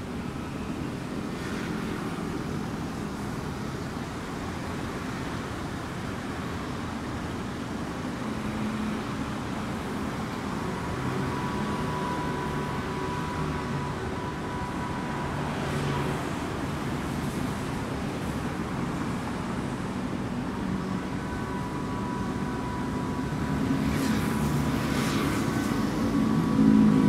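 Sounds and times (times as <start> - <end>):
city road traffic: 0.0 - 27.0.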